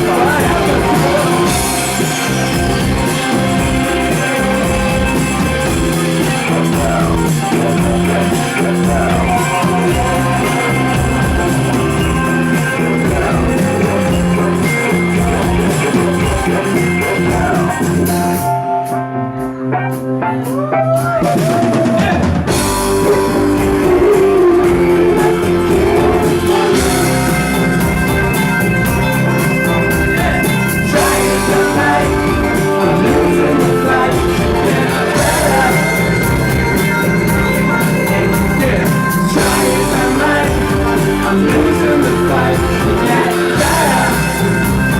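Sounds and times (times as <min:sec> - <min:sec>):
guitars: 0:00.0 - 0:19.6, 0:21.2 - 0:44.9
bass guitar: 0:00.0 - 0:44.9
drum kit: 0:00.0 - 0:44.9.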